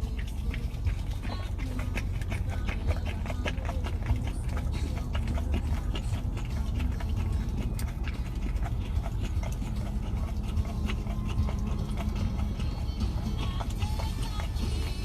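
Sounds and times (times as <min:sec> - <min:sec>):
dog licking and lapping: 0:00.0 - 0:15.0
low steady rumble: 0:00.0 - 0:15.0.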